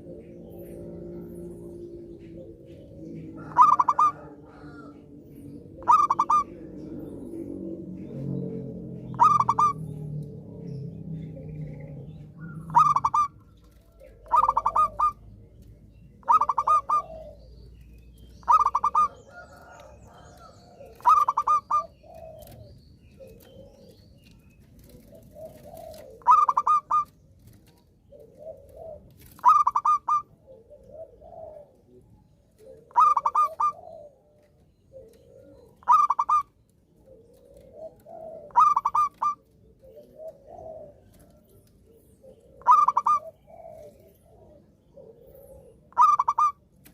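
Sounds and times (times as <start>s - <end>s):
dove singing trilled coos: 0.0s - 46.9s.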